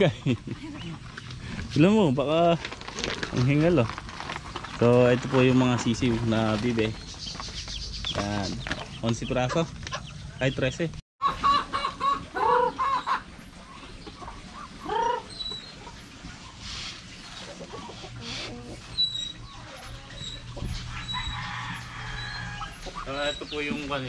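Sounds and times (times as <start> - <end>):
chickens clucking: 0.2 - 2.0, 4.4 - 24.0.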